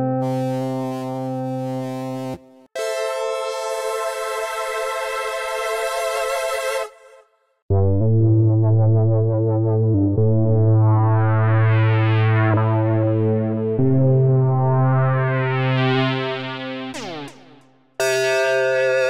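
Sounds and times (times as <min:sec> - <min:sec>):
synth lead notes: 0:00.0 - 0:19.0.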